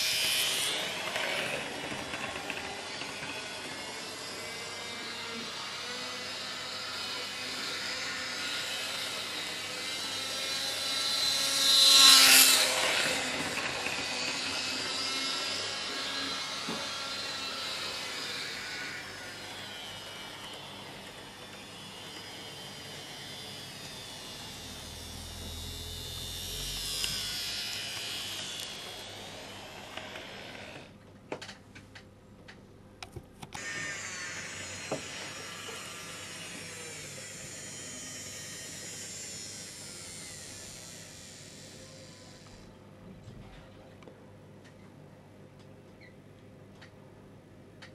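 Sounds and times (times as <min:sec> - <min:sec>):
model train motor whirring: 0:00.0 - 0:30.9, 0:33.6 - 0:42.7.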